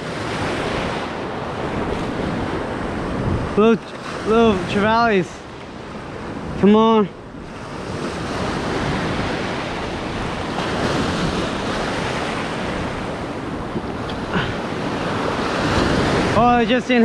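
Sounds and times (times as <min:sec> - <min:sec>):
wind on microphone: 0:00.0 - 0:16.7
surf washing onto beach: 0:00.0 - 0:17.0.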